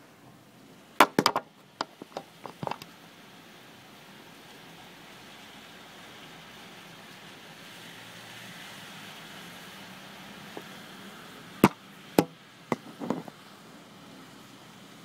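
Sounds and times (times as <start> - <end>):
rain: 0.0 - 15.0
street traffic: 0.0 - 15.0.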